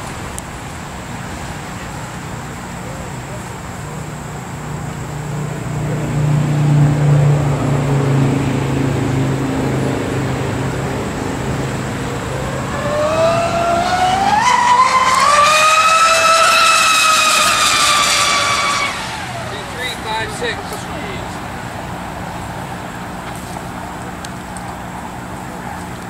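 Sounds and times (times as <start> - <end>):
model speed boat engine whine: 0.0 - 26.0.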